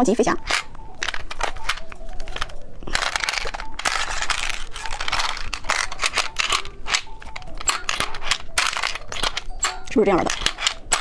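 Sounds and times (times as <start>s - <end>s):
plastic packaging crinkling and tearing: 0.4s - 9.6s.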